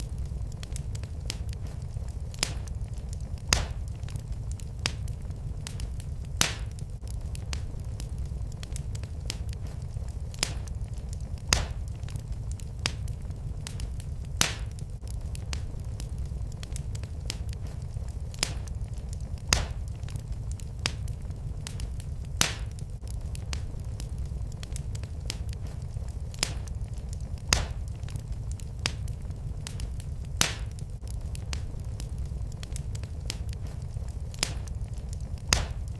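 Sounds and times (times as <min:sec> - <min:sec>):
fireplace fire crackling: 0:00.0 - 0:35.9.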